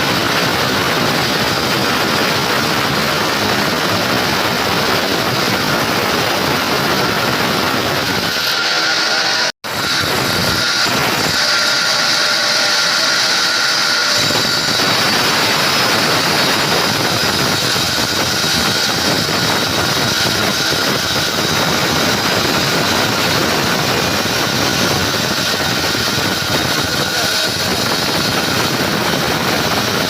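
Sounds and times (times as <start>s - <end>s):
deep rough noise: 0.0s - 30.0s
power tool motor whining: 0.0s - 30.0s.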